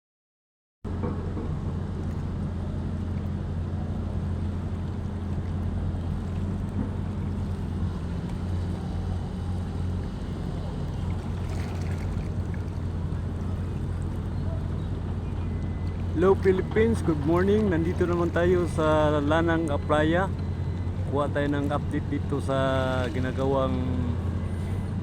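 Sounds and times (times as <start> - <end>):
low engine drone: 0.9 - 25.0.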